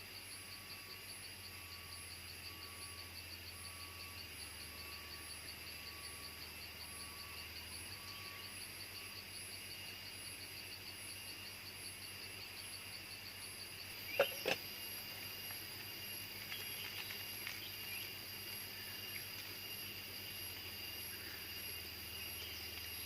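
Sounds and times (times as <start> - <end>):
insects trilling and chirping: 0.0 - 23.0.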